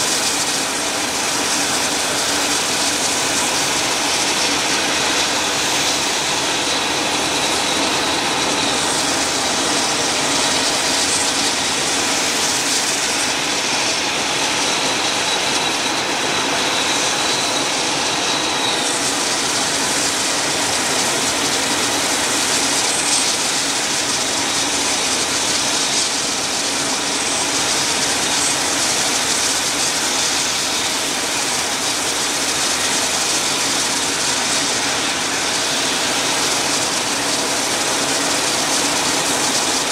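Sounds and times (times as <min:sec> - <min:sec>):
helicopter turbine engines: 0:00.0 - 0:39.9.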